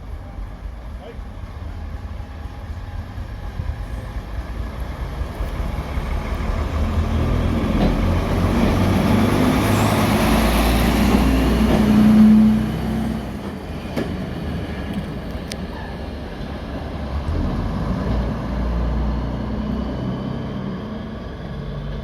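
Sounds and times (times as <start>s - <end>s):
diesel train engine passing: 0.0s - 22.0s.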